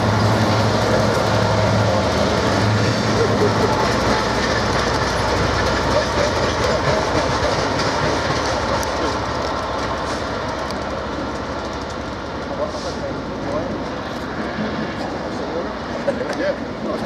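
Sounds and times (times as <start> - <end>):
train wheels clattering over rail joints: 0.0 - 14.1.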